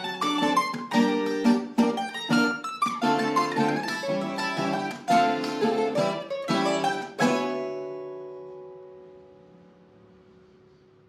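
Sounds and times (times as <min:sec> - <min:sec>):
plucked and strummed string duet: 0:00.0 - 0:10.9.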